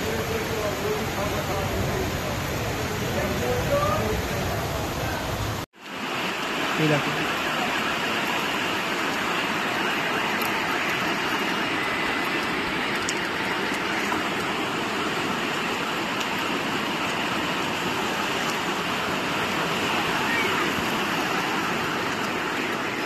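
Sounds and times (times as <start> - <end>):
flowing floodwater: 0.0 - 23.0
heavy rain: 0.0 - 23.0.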